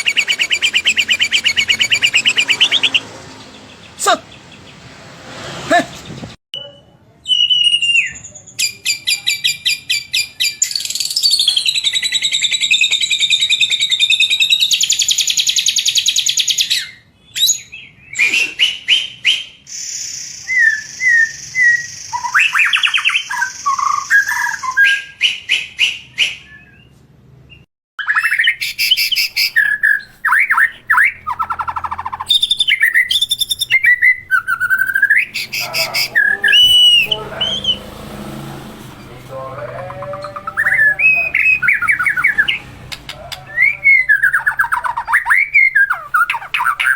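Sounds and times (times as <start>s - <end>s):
songbird singing trills and whistles: 0.0s - 4.6s, 6.6s - 26.9s, 27.5s - 37.8s, 39.6s - 46.9s.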